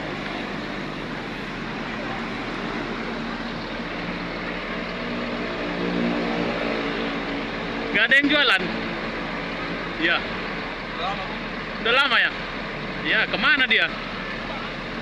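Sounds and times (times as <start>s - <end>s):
bus diesel engine idling: 0.0s - 5.8s, 6.8s - 15.0s.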